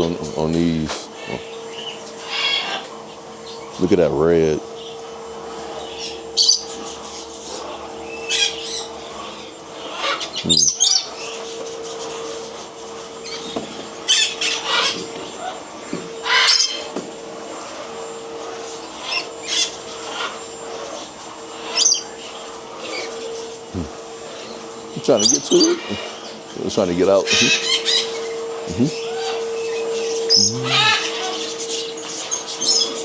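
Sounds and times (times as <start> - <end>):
birds chirping and calling: 0.0 - 17.0, 17.9 - 33.0
steady low hum: 0.0 - 33.0.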